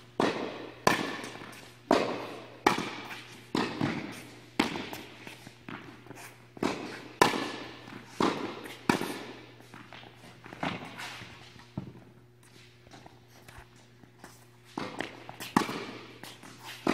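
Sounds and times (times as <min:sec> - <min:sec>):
tennis ball bouncing: 0:00.2 - 0:12.2, 0:14.7 - 0:16.9
rackets striking tennis ball: 0:00.2 - 0:13.6, 0:14.4 - 0:16.9.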